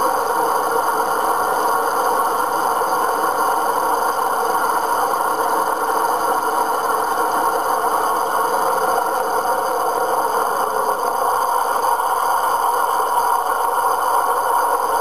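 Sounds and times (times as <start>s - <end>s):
radial aircraft engines droning: 0.0s - 15.0s.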